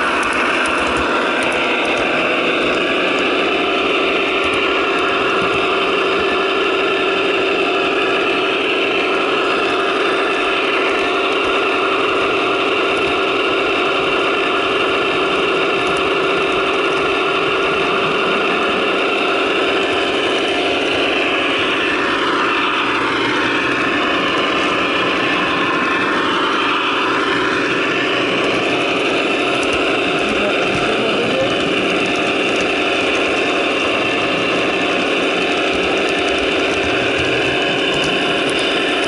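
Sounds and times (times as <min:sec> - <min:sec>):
diesel engine sound from small speakers: 0:00.0 - 0:39.0.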